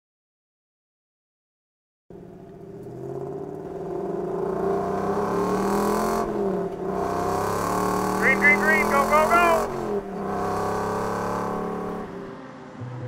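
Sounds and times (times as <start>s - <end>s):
race car engine running hard: 2.1s - 12.8s.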